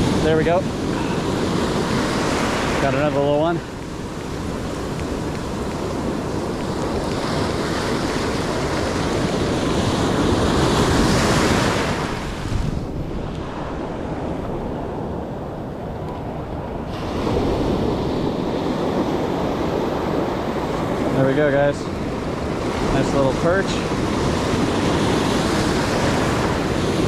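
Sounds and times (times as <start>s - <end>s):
ocean surf breaking: 0.0s - 27.0s
wind buffeting microphone: 0.0s - 27.0s.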